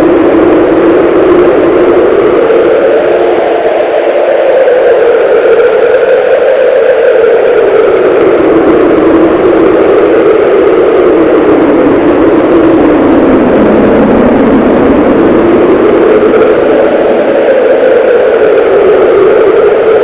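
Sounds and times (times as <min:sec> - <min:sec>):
cartoon wind rushing: 0:00.0 - 0:20.0.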